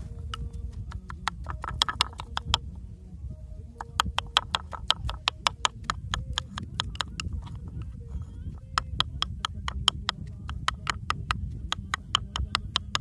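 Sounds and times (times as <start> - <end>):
low rumble: 0.0 - 12.0
sharp clicks and knocks: 0.3 - 2.7, 3.8 - 13.0.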